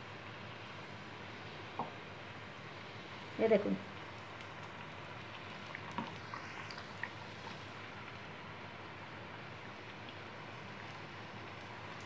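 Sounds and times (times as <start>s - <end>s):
pastries sizzling in hot oil: 0.0s - 12.0s.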